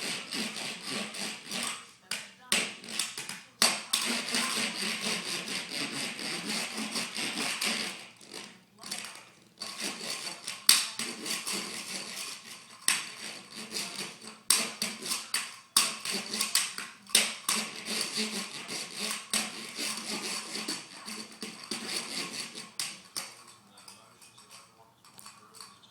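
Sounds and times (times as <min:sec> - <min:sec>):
hard objects scraping and rattling: 0:00.0 - 0:25.9.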